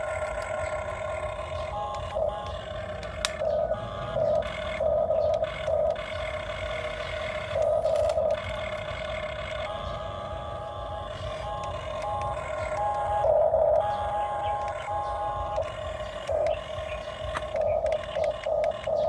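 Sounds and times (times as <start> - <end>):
excavator mechanical whine: 0.0 - 19.0.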